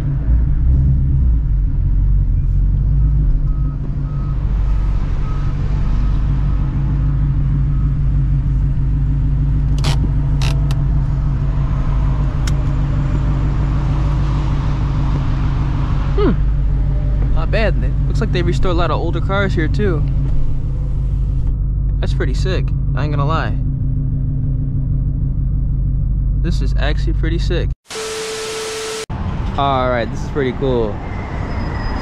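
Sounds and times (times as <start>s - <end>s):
car engine idling: 1.4s - 27.7s.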